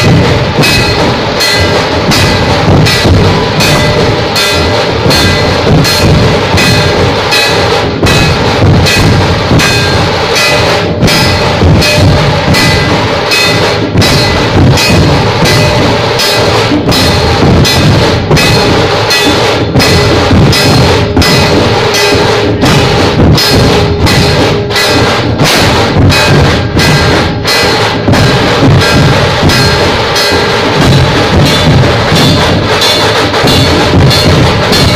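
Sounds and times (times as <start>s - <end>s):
dhol drums beaten together: 0.0s - 34.9s.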